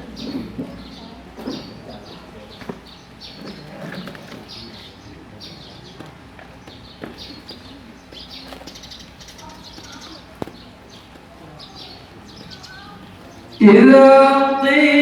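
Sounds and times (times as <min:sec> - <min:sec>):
small birds chirping: 0:00.0 - 0:13.9
faint background voices: 0:00.0 - 0:15.0.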